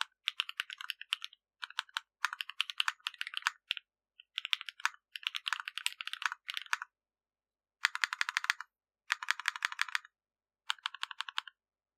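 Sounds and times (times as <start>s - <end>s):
mechanical keyboard typing: 0.0s - 6.8s, 7.8s - 10.1s, 10.7s - 11.5s.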